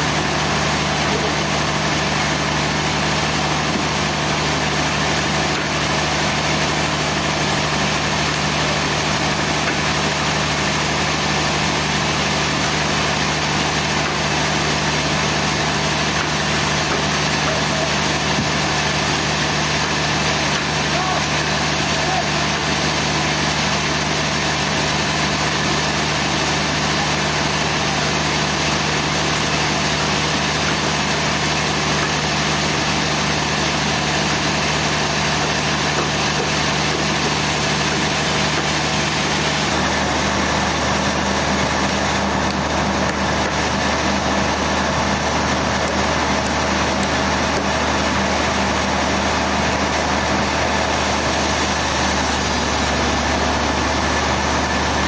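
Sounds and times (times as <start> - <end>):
sawmill machinery engine humming: 0.0 - 55.0.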